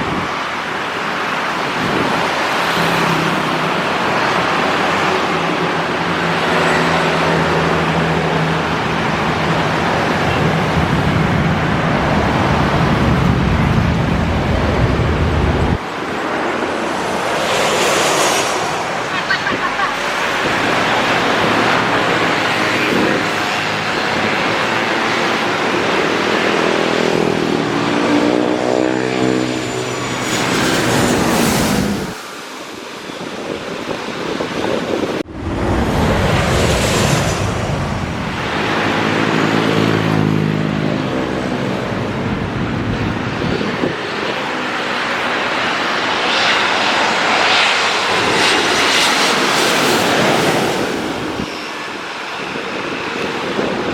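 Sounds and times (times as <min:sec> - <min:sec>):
airliner engines overhead: 0:00.0 - 0:53.9.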